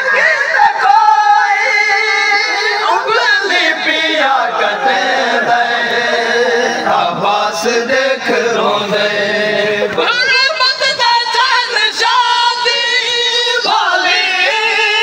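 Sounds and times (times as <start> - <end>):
men chanting a mourning lament: 0.0 - 15.0.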